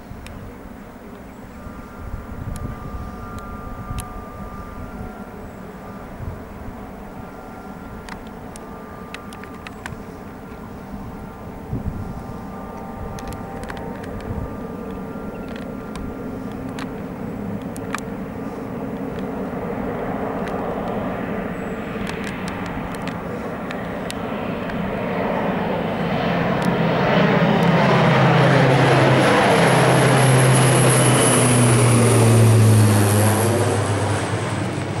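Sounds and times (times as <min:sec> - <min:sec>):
high turbine whine: 0:00.0 - 0:35.0
propeller plane passing overhead: 0:00.0 - 0:35.0.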